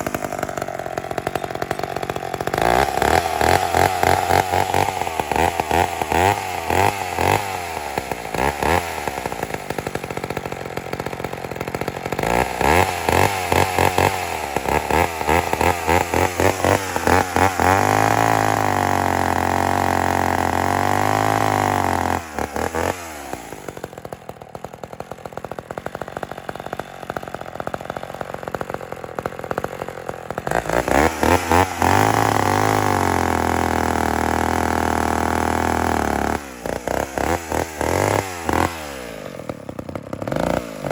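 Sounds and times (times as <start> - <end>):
chainsaw revving and idling: 0.0 - 40.9.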